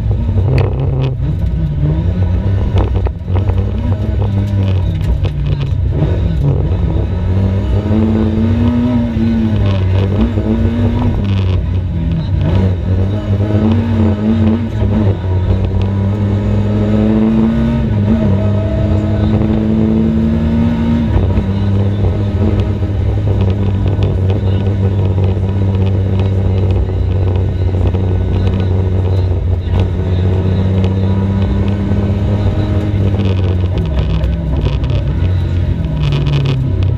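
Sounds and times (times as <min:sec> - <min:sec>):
rally car engine shifting gears: 0:00.0 - 0:36.9.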